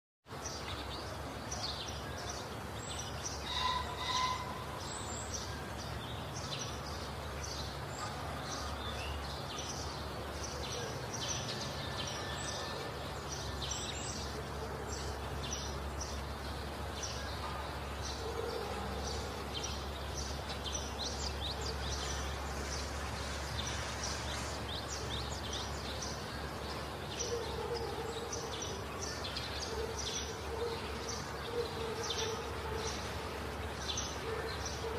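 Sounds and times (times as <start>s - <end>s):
small birds chirping: 0.3s - 34.9s.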